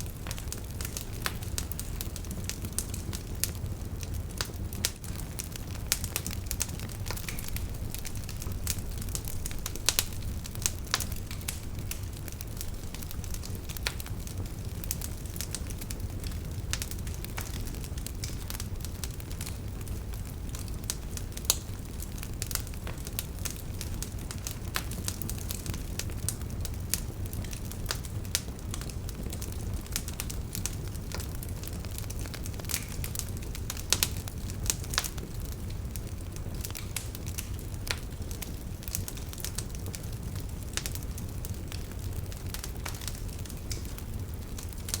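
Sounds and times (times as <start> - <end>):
campfire flames rumbling: 0.0 - 45.0
wood crackling and popping: 0.0 - 45.0.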